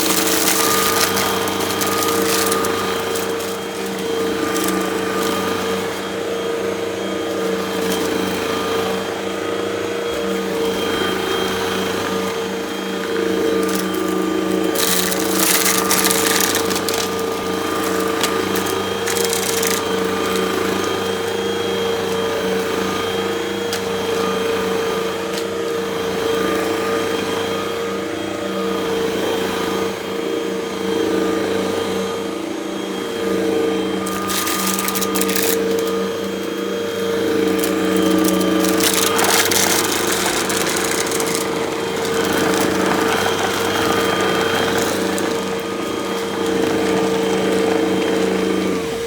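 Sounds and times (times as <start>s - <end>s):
debris crackling being sucked up: 0.0s - 9.2s, 10.1s - 26.8s, 34.0s - 49.0s
vacuum cleaner motor hum: 0.0s - 49.0s.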